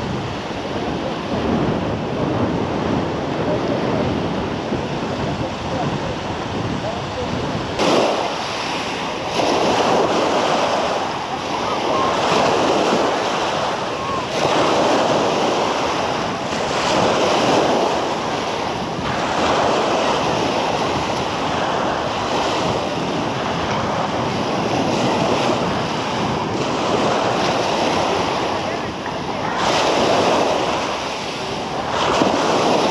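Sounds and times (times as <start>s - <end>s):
waves washing onto beach: 0.0s - 32.9s
wind buffeting microphone: 0.0s - 32.9s.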